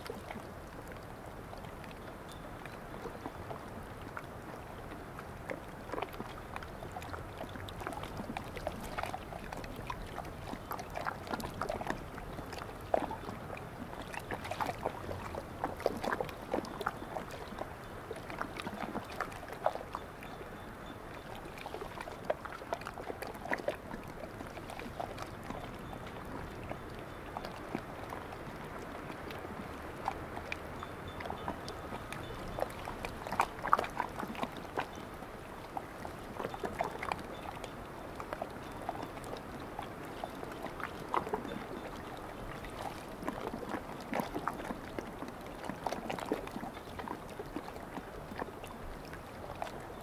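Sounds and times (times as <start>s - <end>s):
small sea waves lapping: 0.0s - 50.0s.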